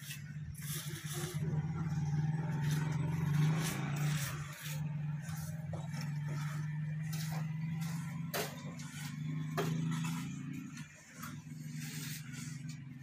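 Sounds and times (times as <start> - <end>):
faint scraping: 0.0 - 13.0
engine humming: 0.2 - 13.0.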